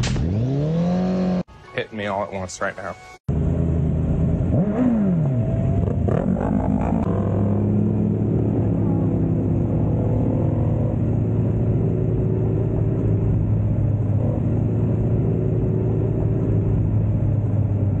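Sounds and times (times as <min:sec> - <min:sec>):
motorcycle engine running: 0:03.3 - 0:18.0.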